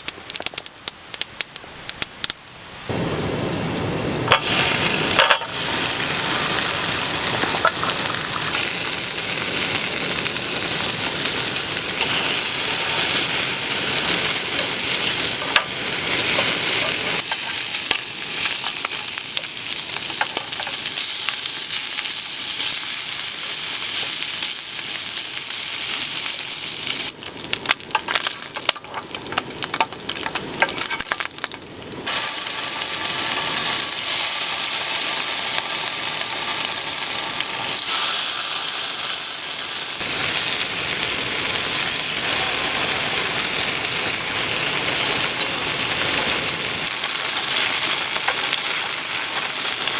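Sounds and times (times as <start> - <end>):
food sizzling in a pan: 2.9 - 49.9.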